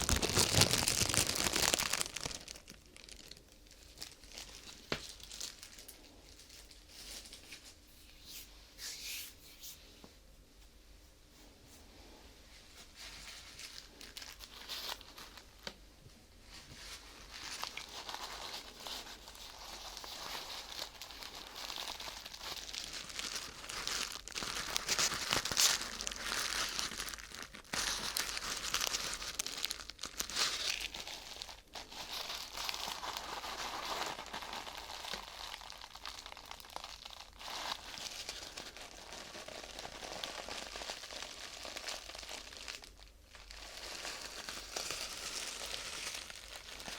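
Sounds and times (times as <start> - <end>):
plastic film crinkling by hand: 0.0 - 9.0, 12.7 - 15.8, 16.4 - 46.9.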